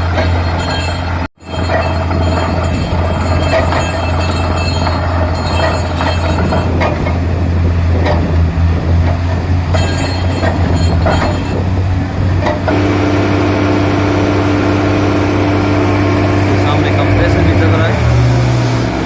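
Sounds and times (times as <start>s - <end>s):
drilling knocks and clanks: 0.0s - 18.5s
drilling rig compressor drone: 0.0s - 19.0s.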